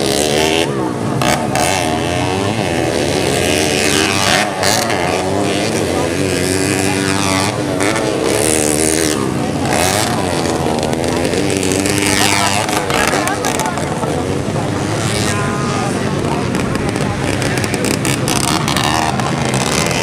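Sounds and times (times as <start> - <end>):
motorcycles revving: 0.0 - 20.0.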